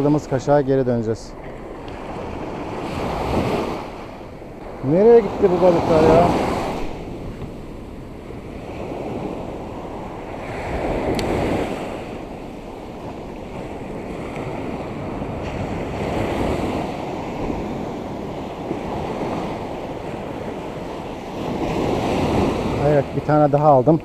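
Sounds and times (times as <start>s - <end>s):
surf breaking on a beach: 0.0s - 24.0s
wind on microphone: 0.0s - 24.0s.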